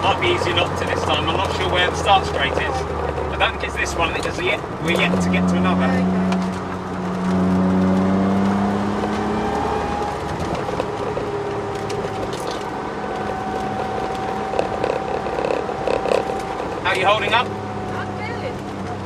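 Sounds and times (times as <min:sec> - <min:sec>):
car engine revving: 0:00.0 - 0:19.0
drivetrain whine: 0:00.0 - 0:19.0.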